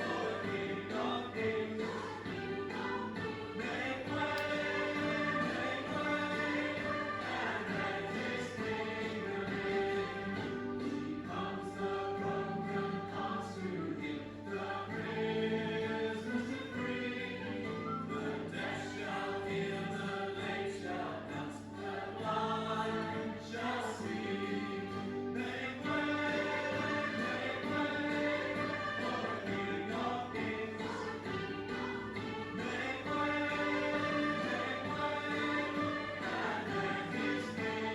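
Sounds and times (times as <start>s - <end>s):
choir singing church music: 0.0s - 37.9s.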